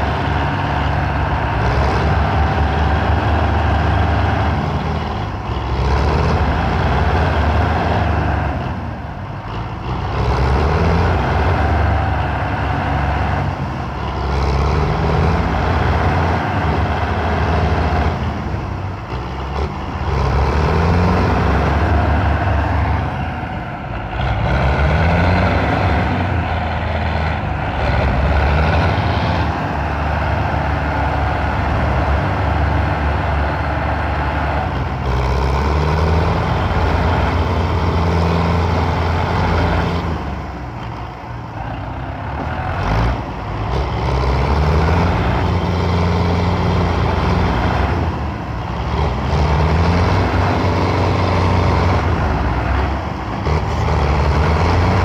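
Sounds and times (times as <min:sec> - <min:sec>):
tractor diesel engine straining: 0:00.0 - 0:55.0.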